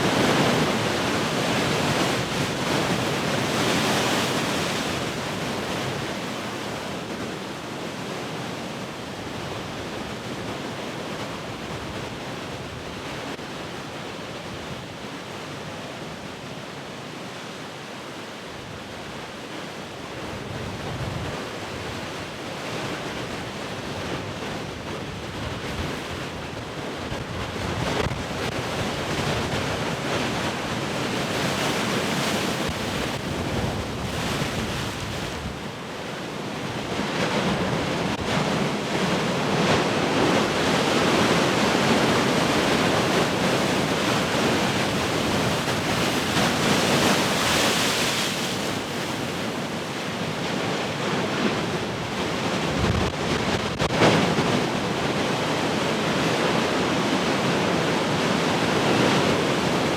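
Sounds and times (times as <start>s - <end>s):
ocean surf washing: 0.0s - 13.4s, 23.0s - 59.9s.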